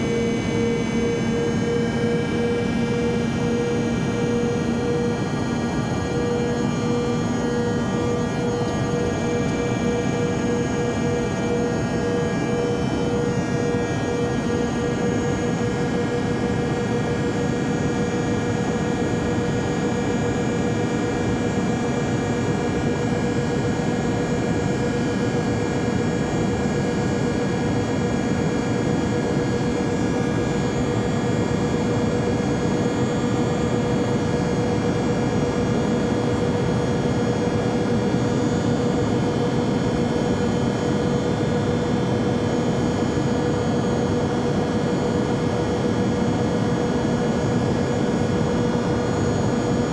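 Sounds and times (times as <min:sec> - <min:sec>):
airplane droning in flight: 0:00.0 - 0:49.9.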